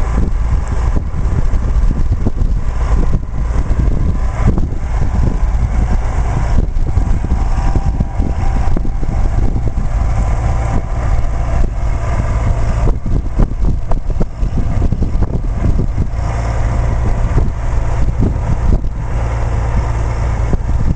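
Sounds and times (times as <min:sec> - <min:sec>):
field sprayer engine running: 0:00.0 - 0:20.9.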